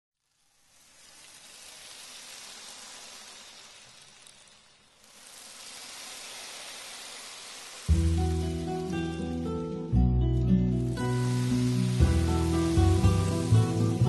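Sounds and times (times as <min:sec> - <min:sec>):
sea waves washing ashore: 0:00.4 - 0:09.9, 0:10.7 - 0:14.0.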